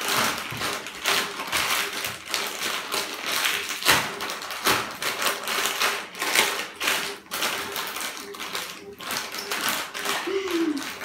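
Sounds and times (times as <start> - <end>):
chip packets crinkling: 0.0 - 11.0.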